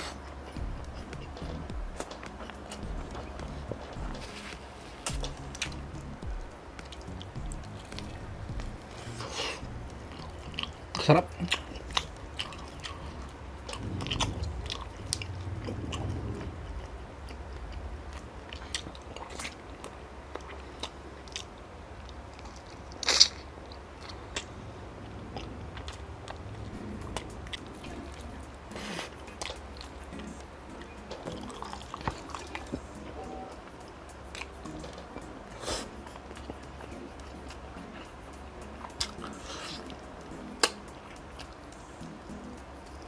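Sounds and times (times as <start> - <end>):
chewing and biting: 0.0 - 43.0.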